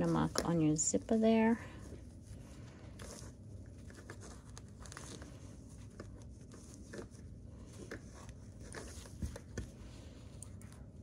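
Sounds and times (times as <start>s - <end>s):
cloth rustling: 0.0s - 11.0s.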